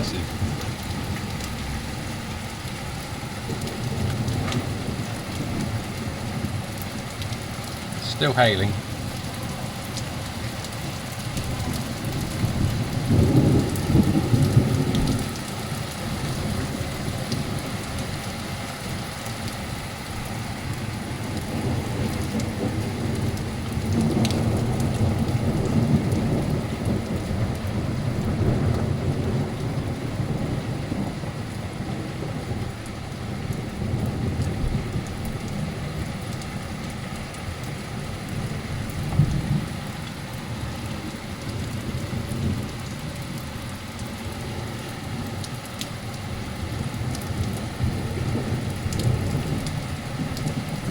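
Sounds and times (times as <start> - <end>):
thunder rumbling: 0.0 - 50.9
torrential rain and hail: 0.0 - 50.9.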